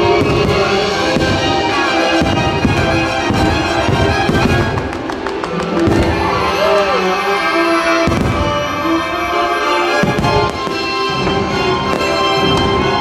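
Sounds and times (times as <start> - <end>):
fireworks bursting: 0.0 - 13.0
orchestral music over loudspeakers: 0.0 - 13.0.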